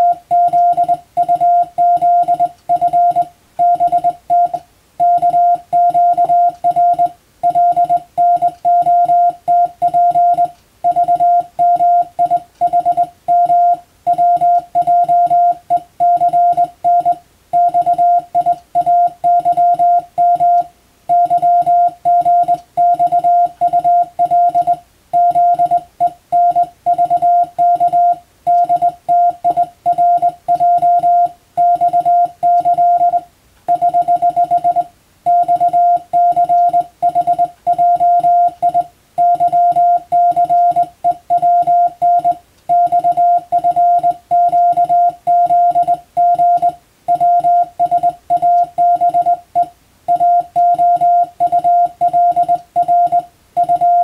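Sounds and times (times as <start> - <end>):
morse code tone: 0.0 - 54.0.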